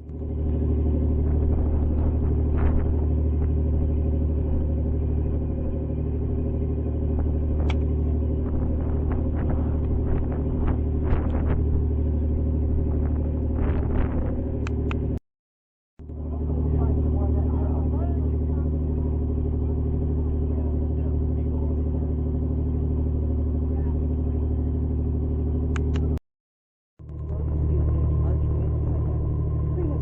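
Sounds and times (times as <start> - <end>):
boat engine drone: 0.0 - 15.2, 16.0 - 26.2, 27.0 - 30.0.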